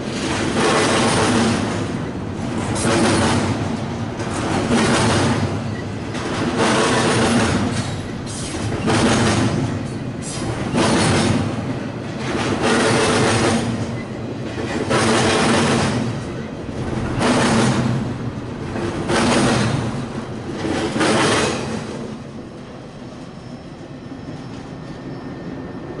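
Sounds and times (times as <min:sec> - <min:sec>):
freight train cars rolling past: 0:00.0 - 0:26.0.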